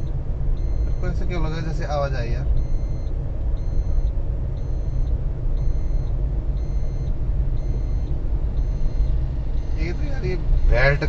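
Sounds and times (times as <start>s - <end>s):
car road noise rumble: 0.0s - 11.0s
dashboard warning chime beeping: 0.0s - 11.0s.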